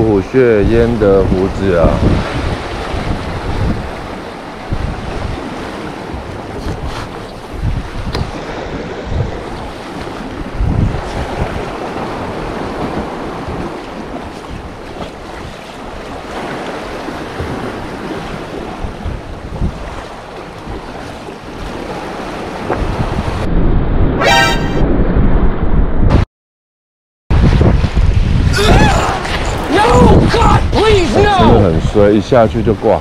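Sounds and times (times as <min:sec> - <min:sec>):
sea waves washing ashore: 0:00.0 - 0:23.5, 0:27.3 - 0:33.0
wind buffeting microphone: 0:00.0 - 0:26.2, 0:27.3 - 0:33.0.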